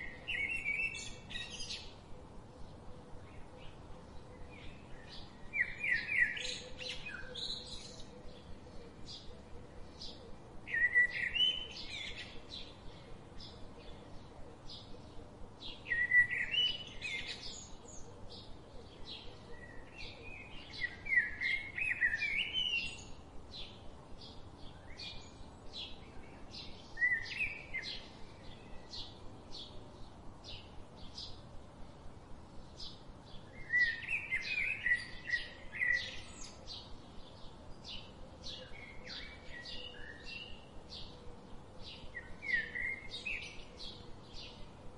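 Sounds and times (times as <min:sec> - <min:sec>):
bird singing warbled phrases: 0:00.0 - 0:44.9.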